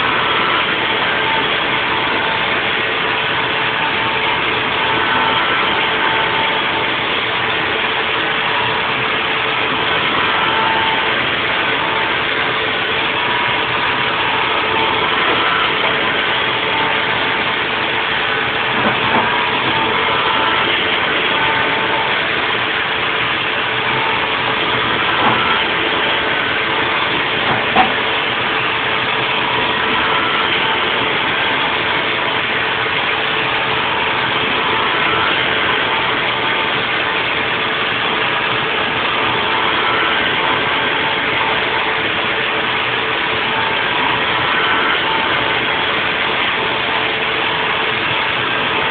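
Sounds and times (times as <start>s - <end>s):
cnc mill machining hum: 0.0s - 48.9s
high machining tones: 0.0s - 48.9s.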